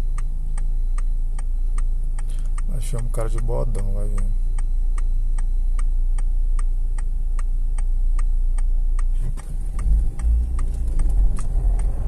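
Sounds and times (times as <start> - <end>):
car engine low rumble: 0.0 - 12.0
turn signal ticking: 0.0 - 12.0.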